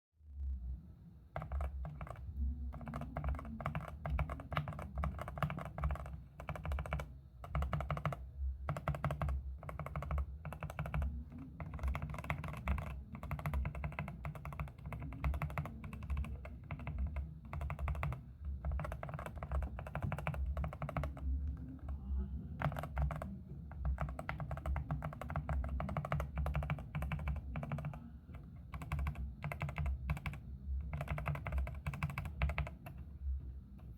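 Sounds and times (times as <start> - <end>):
mechanical keyboard typing: 1.3 - 22.0, 22.6 - 33.1.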